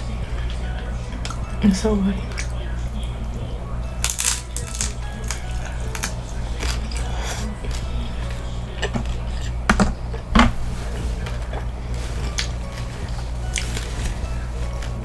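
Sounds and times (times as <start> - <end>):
taco shell crunching: 2.3 - 15.0.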